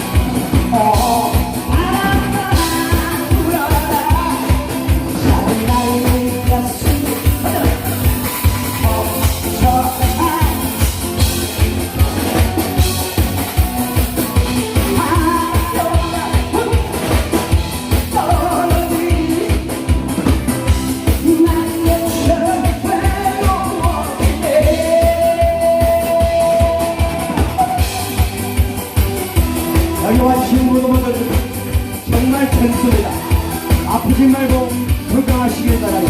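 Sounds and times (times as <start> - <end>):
man singing into a microphone: 0.0 - 12.6, 13.5 - 28.6, 29.6 - 36.0
steady drum beat: 0.0 - 36.0.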